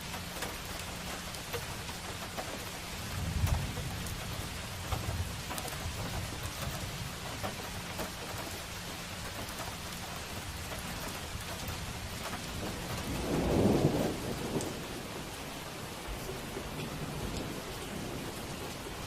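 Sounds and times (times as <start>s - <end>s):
rain on street surfaces: 0.0s - 19.0s.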